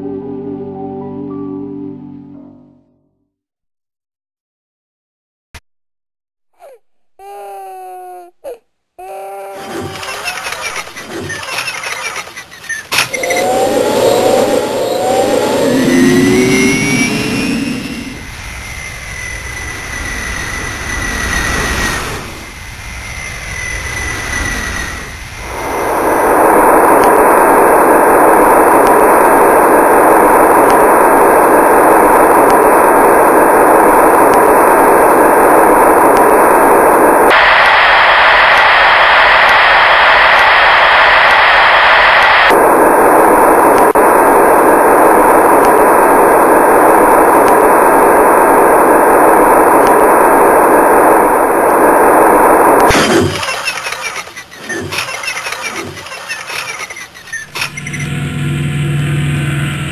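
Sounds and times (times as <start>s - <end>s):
static-like rushing noise: 9.6s - 59.9s.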